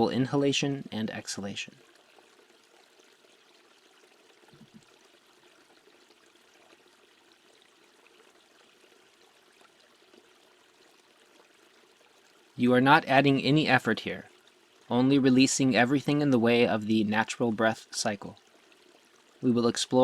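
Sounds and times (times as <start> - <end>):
faint running water hiss: 0.0 - 20.0.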